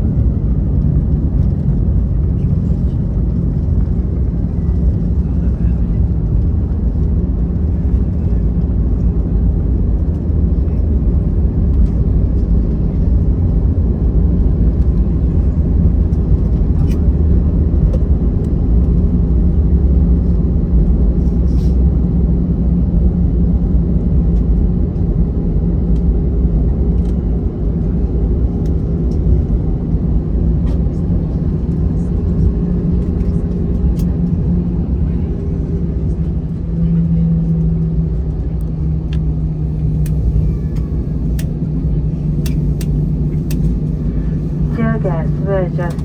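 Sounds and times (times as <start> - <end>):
aircraft cabin rumble on runway: 0.0 - 46.0.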